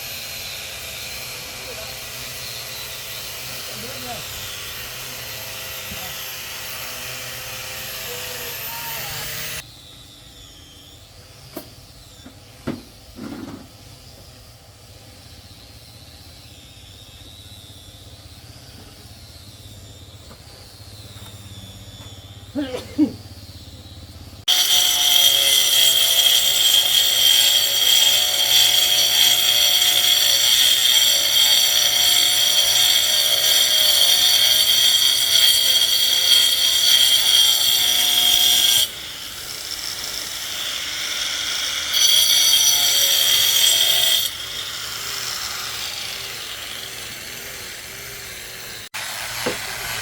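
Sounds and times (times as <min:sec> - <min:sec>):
power tool whining on wood: 0:00.0 - 0:14.3, 0:16.4 - 0:50.0.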